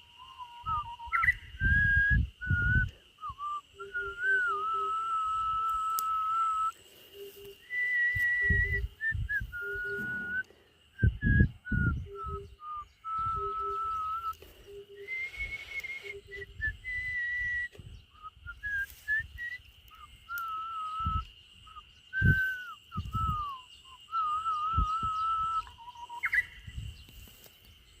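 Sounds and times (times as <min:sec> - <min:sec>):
person whistling a melody: 0:00.2 - 0:26.5.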